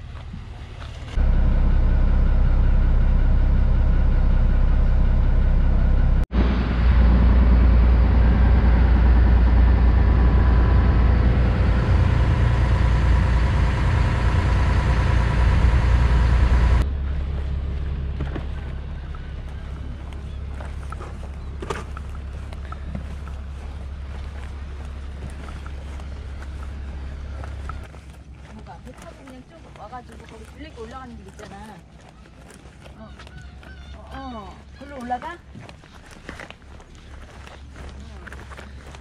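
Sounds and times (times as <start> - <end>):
boat engine drone: 0.0 - 39.0.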